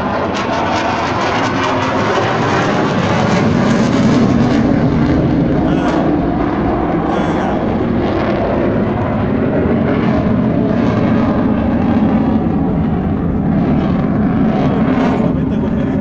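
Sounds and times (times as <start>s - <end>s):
jet aircraft rumble overhead: 0.0s - 16.0s.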